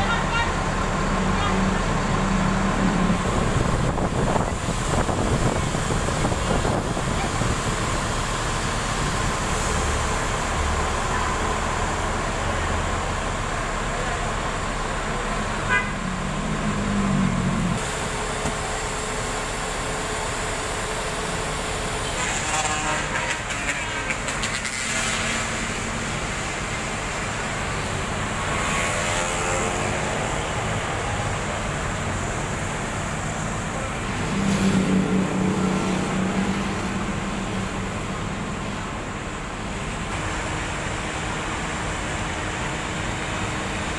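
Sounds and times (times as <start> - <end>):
vehicle noise: 0.0 - 43.9.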